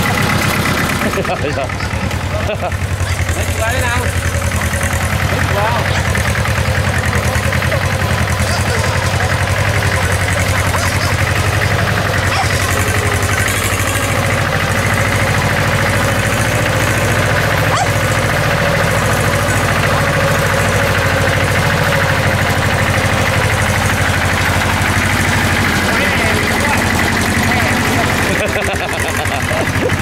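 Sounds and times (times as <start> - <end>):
diesel tractor engine running: 0.0 - 30.0.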